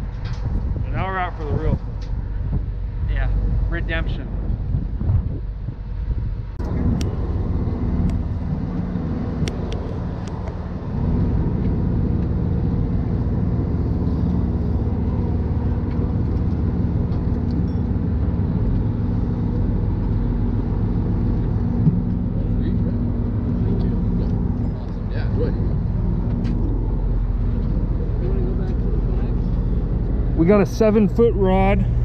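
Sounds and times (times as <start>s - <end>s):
boat engine drone: 0.0s - 32.0s
rushing wind and water: 0.0s - 32.0s.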